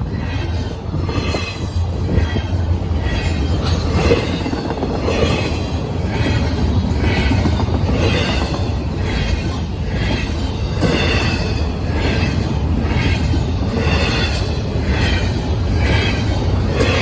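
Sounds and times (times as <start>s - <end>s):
train rolling past: 0.0s - 17.0s
wheel and rail noise: 0.0s - 17.0s.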